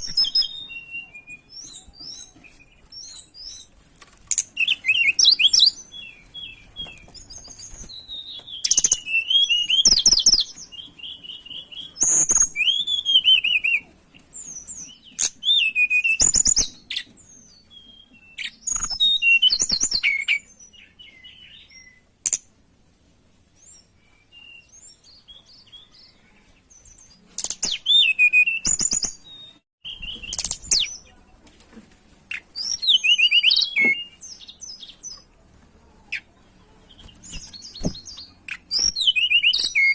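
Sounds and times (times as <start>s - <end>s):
bird whistling song: 0.0s - 3.7s, 4.3s - 22.4s, 23.6s - 31.1s, 32.3s - 35.2s, 36.9s - 39.9s.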